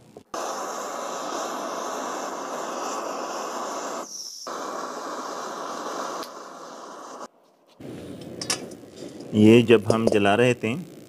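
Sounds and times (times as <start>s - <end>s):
gas burner flame hissing: 0.0s - 10.4s.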